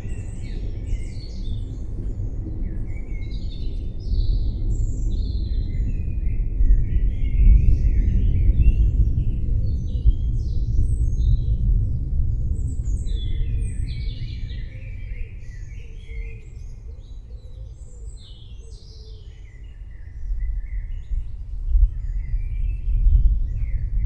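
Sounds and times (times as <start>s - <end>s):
deep low rumble: 0.0s - 16.8s, 20.2s - 24.0s
songbirds chirping: 0.0s - 24.0s.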